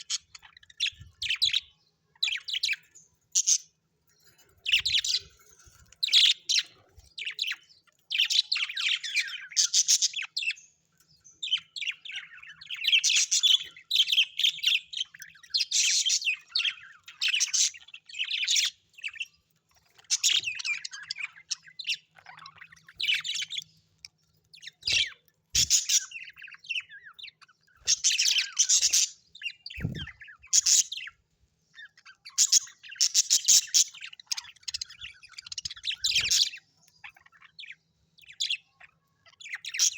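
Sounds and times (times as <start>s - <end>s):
parrots chirping and chattering: 0.0s - 39.9s.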